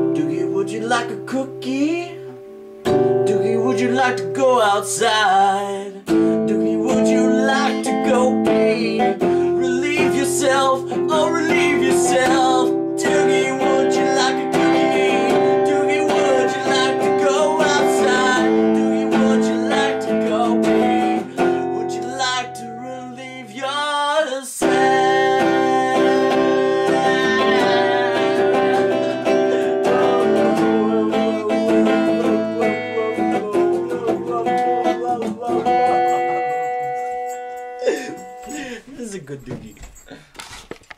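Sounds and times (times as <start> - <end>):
person singing: 0.0 - 39.0
acoustic guitar strumming: 0.0 - 39.8.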